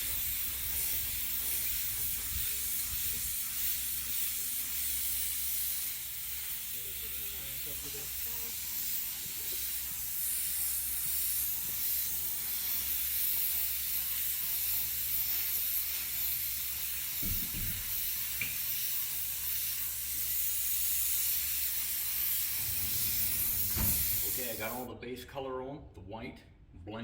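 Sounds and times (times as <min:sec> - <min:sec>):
paint spray gun hissing: 0:00.0 - 0:24.9.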